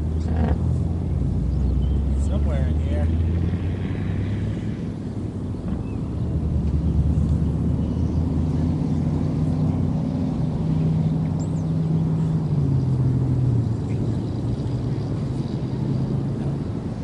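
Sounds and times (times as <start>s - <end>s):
traffic engine drone: 0.0s - 17.0s.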